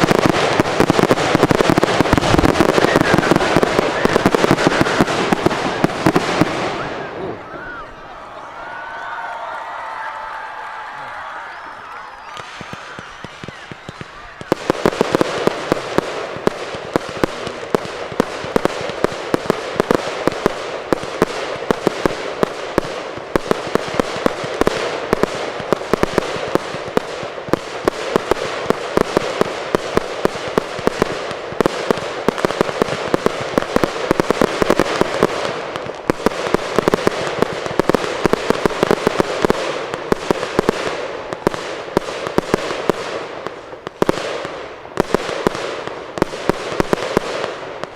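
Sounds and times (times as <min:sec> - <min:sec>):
firework bangs: 0:00.0 - 0:08.0, 0:11.2 - 0:47.9
firework crackling: 0:00.0 - 0:08.0, 0:08.7 - 0:47.9.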